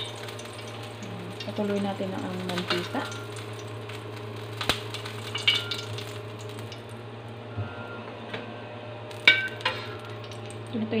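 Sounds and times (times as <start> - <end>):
oil sizzling: 0.0 - 7.5, 9.1 - 11.0
steady low hum: 0.0 - 11.0.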